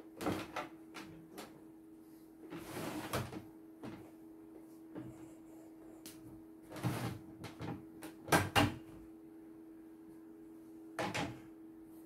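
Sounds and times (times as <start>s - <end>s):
steady low hum: 0.8s - 12.0s.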